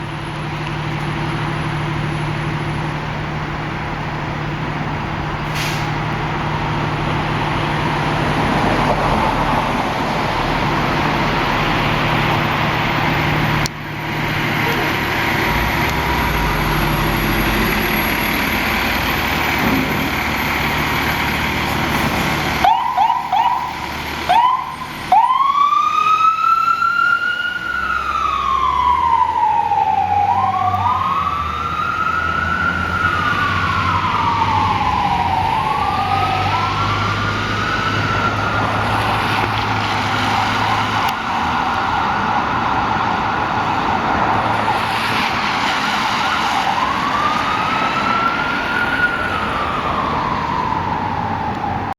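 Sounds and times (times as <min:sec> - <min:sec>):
fire engine siren wailing: 0:00.0 - 0:51.9
truck engine running low: 0:00.0 - 0:51.9.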